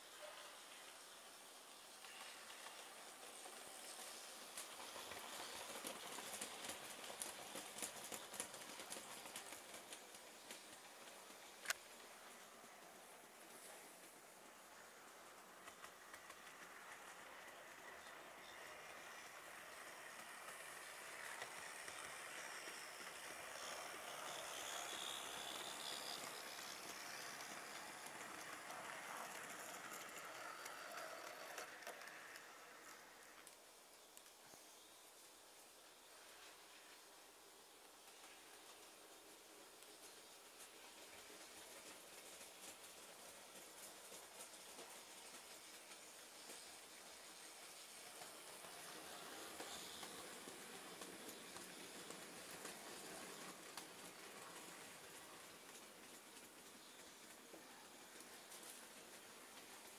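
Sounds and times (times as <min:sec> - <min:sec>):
model train wheels clicking: 0:00.0 - 0:59.9.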